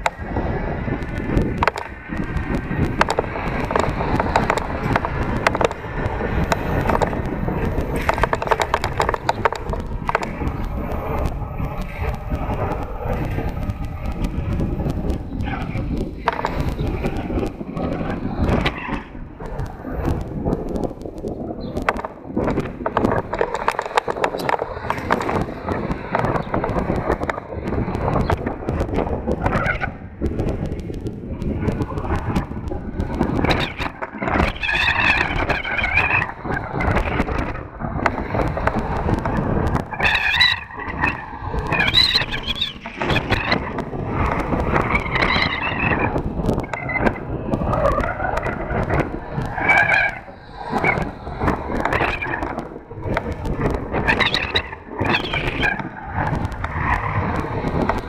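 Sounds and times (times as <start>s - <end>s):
bike rattling clicks and knocks: 0.0s - 58.0s
tyre and wind rumble: 0.0s - 58.0s.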